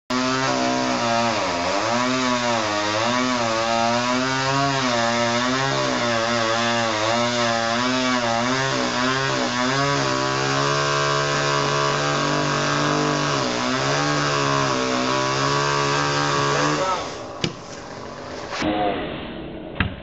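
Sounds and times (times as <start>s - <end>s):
chainsaw engine running: 0.1s - 18.6s.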